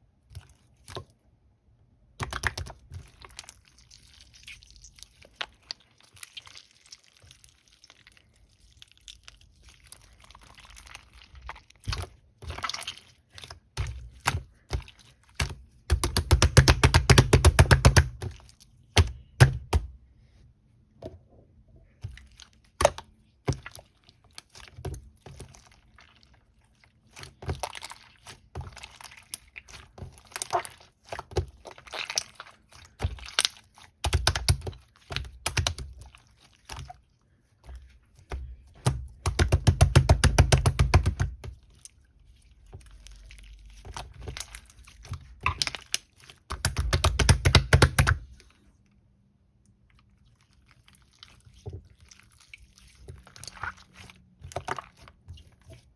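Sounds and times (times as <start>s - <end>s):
slime squished by hand: 2.1s - 20.0s, 21.9s - 55.9s.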